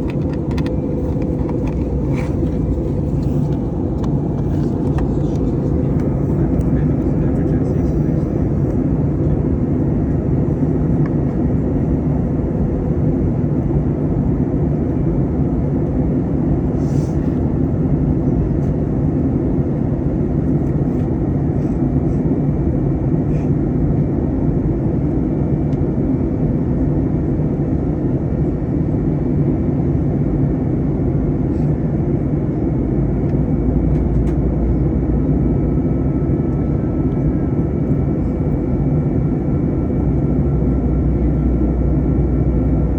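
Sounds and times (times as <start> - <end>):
airliner cabin roar: 0.0 - 42.9.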